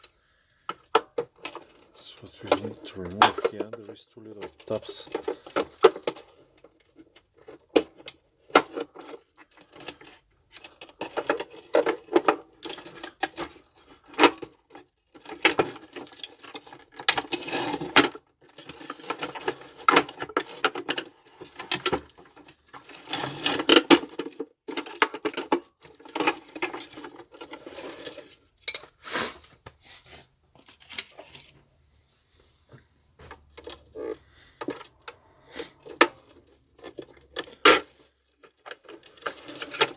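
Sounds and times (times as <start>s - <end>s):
plastic vacuum parts clicking and rattling: 0.0s - 28.8s, 30.6s - 31.7s, 32.7s - 39.9s.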